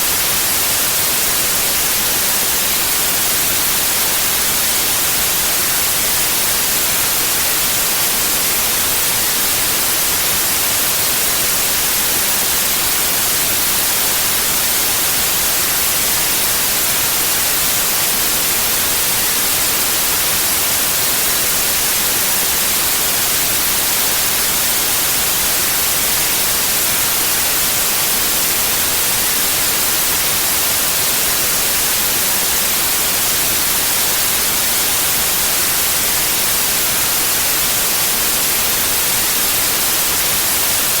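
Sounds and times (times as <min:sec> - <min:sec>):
white noise hiss: 0:00.0 - 0:41.0.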